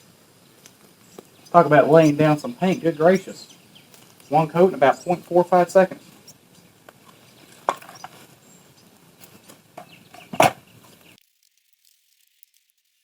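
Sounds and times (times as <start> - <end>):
handling noise: 0.6 - 11.0.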